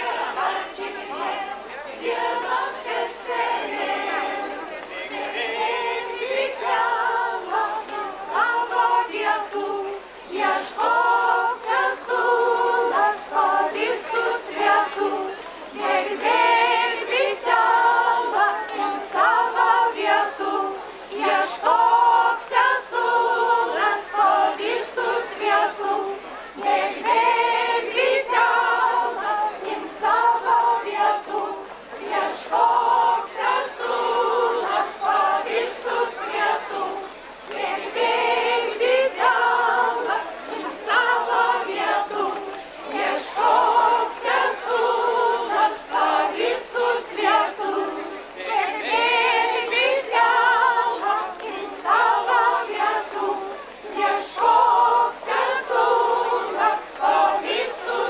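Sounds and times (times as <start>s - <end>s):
women singing unaccompanied: 0.0s - 58.0s.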